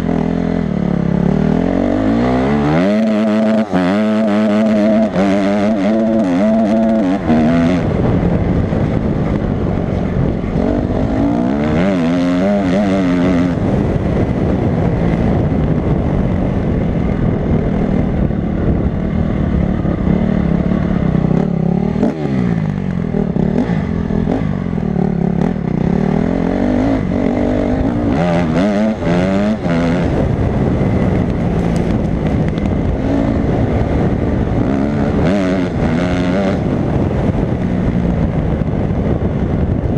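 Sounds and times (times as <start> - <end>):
dirt bike engine revving: 0.0 - 39.2.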